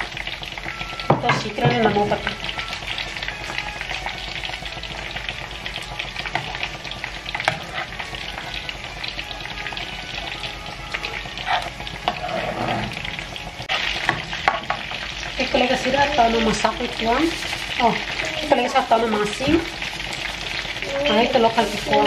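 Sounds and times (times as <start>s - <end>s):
sauce crackling and popping: 0.0s - 22.0s.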